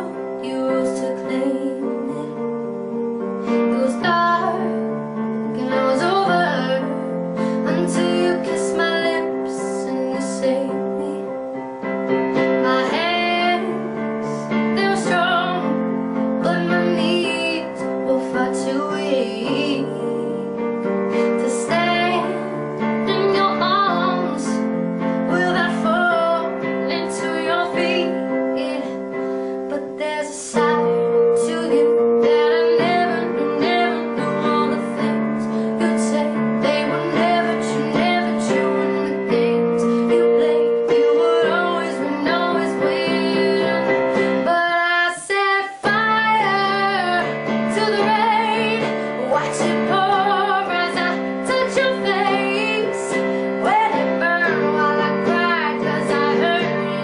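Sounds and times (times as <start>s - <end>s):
piano: 0.0s - 57.0s
woman singing pop song: 0.0s - 57.0s.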